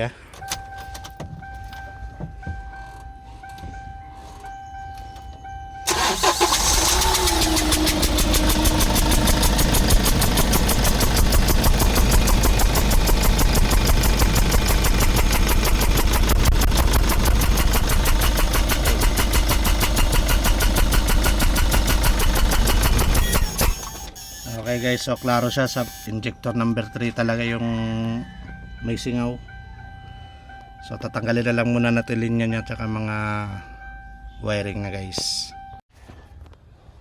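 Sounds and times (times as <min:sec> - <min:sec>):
diesel engine cranking and idling: 0:00.0 - 0:30.8.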